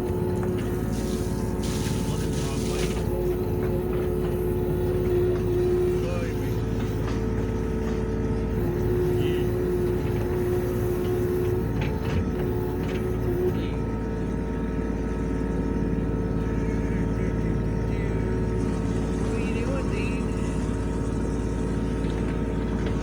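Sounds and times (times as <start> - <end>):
excavator diesel engine running: 0.0 - 23.0
hydraulic whine: 0.0 - 23.0.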